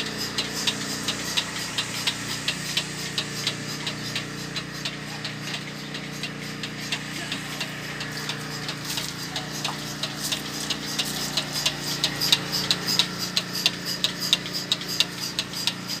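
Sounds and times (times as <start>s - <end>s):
milking machine motor hum: 0.0s - 16.0s
pulsator clicking: 0.0s - 16.0s.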